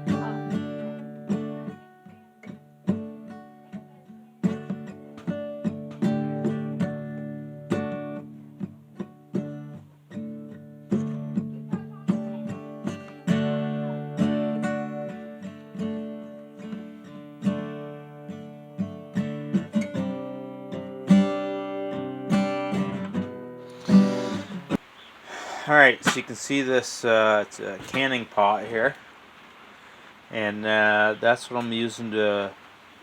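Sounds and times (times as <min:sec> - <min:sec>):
acoustic guitar chords: 0:00.0 - 0:29.2.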